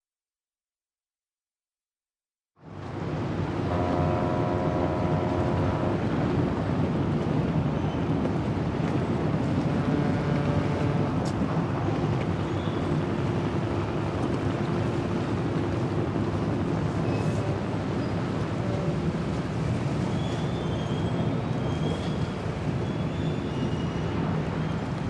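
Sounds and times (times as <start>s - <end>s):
low rumble of ship engines: 2.6s - 25.0s
wind: 2.6s - 25.0s.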